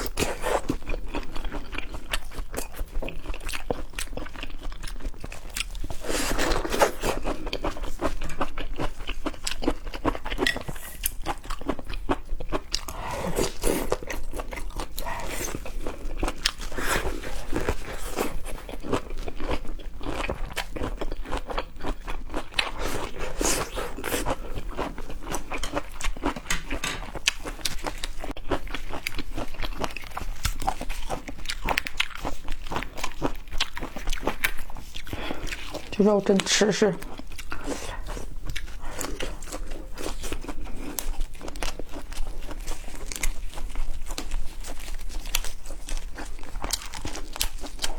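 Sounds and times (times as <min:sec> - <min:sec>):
close chewing and crunching: 0:00.0 - 0:47.9.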